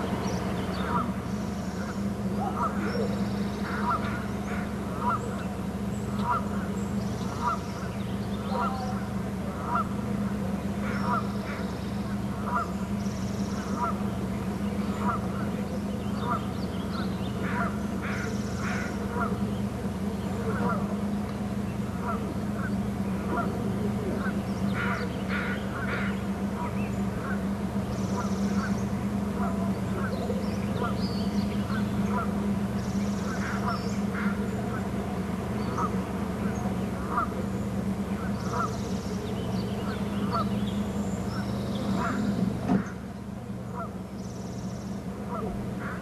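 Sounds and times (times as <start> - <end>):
bird calling: 0.0 - 46.0.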